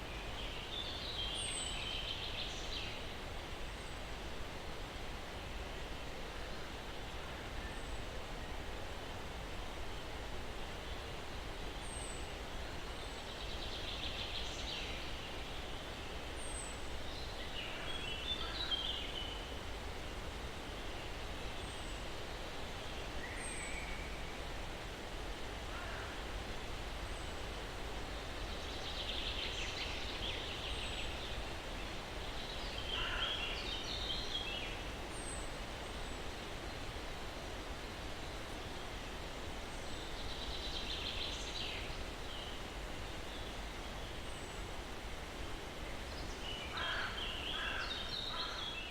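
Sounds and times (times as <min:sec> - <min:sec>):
breeze through pines: 0:00.0 - 0:48.9.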